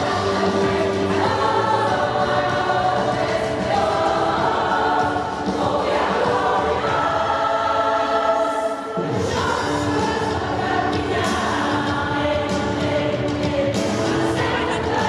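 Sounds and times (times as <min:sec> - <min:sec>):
choir singing a pop song: 0:00.0 - 0:15.0.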